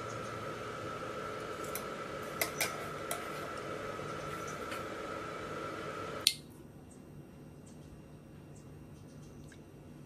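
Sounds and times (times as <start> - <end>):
faint high hum: 0.0 - 10.0.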